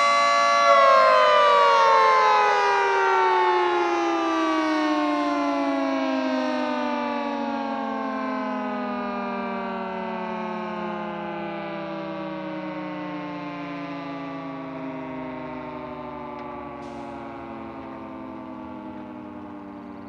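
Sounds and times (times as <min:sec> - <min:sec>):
warning siren winding down: 0:00.0 - 0:20.0.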